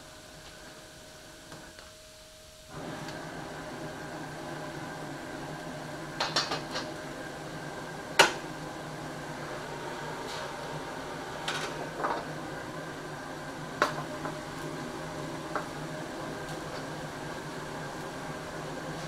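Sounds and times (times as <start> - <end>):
gas burners roaring: 2.5 - 19.0.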